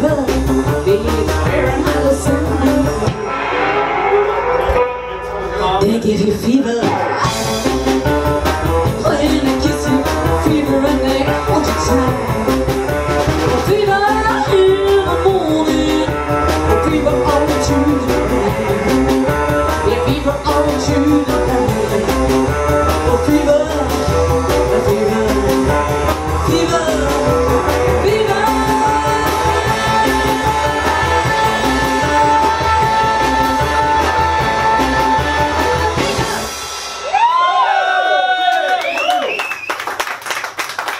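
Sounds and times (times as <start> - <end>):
live band playing: 0.0 - 40.9.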